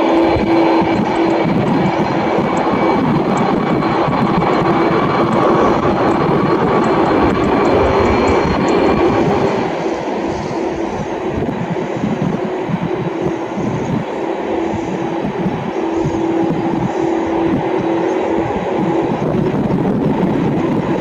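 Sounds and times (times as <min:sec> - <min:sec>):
constant humming tone: 0:00.0 - 0:21.0
jet engines running: 0:00.0 - 0:21.0.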